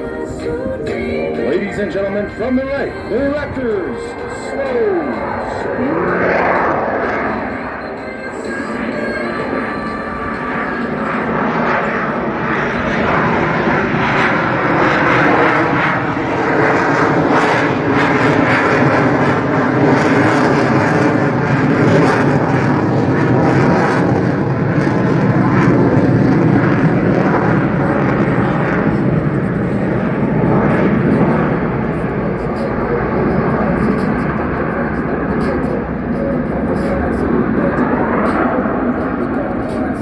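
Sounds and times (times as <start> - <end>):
jet fighter engines roaring: 0.0 - 40.0.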